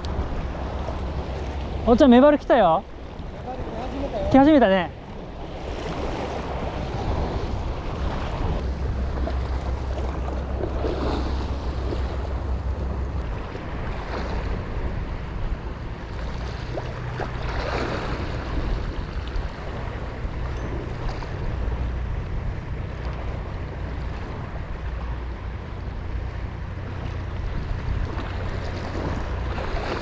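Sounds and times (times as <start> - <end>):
water washing against breakwater: 0.0 - 30.0
wind on microphone: 0.0 - 30.0
low steady drone: 4.9 - 30.0.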